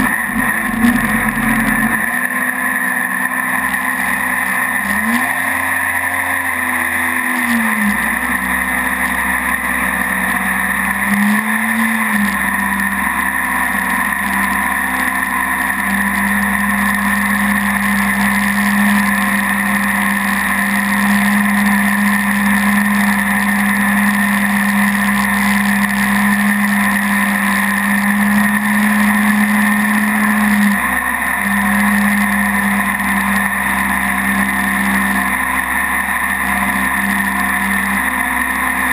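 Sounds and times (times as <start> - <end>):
jet boat engine drone and whine: 0.0 - 38.9.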